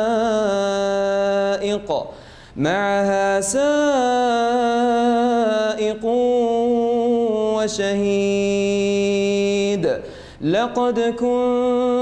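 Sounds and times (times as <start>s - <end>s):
man reciting melodic chant: 0.0s - 12.0s.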